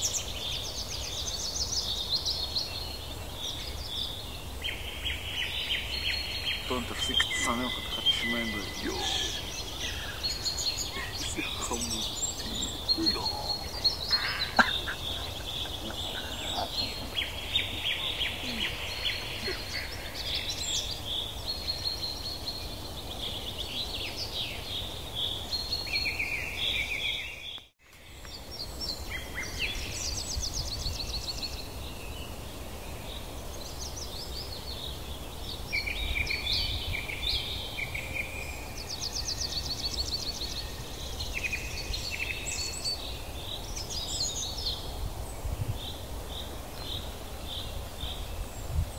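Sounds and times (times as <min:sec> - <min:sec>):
birds chirping and trilling: 0:00.0 - 0:27.7, 0:28.4 - 0:48.9.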